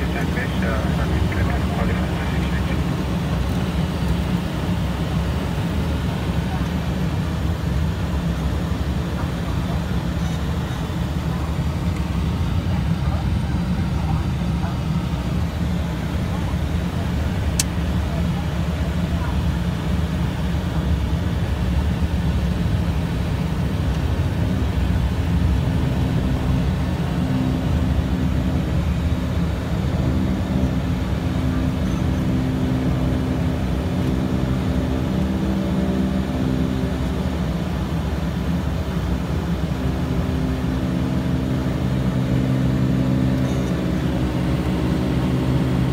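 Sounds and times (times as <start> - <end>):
turboprop propeller drone: 0.0 - 45.9.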